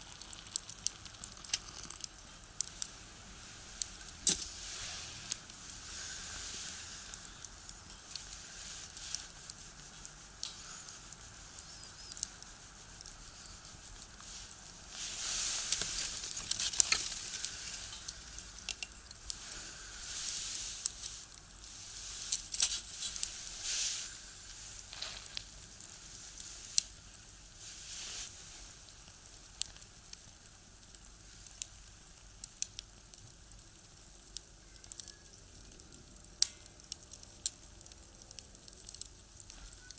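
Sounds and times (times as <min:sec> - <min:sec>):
fire hissing: 0:00.0 - 0:39.9
firewood crackling and popping: 0:00.0 - 0:39.9.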